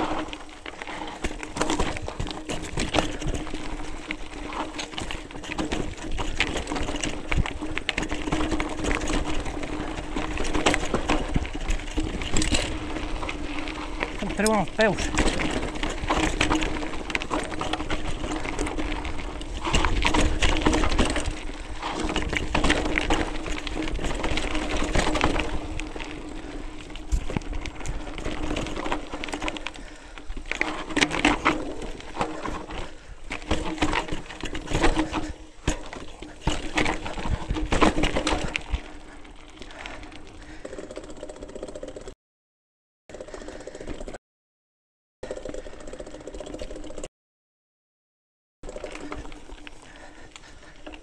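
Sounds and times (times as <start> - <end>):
bike tyres crunching over stones: 0.0 - 42.0, 48.6 - 51.0
bike freehub buzzing: 0.0 - 42.1, 43.1 - 44.2, 45.2 - 47.1
bike rattling over bumps: 0.0 - 42.2, 43.1 - 44.2, 45.2 - 47.1, 48.6 - 51.0.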